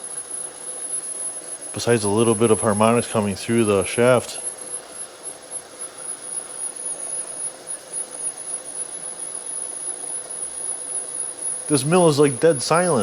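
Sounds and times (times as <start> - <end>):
faint high whine: 0.0 - 13.0
milling machine humming: 0.0 - 13.0.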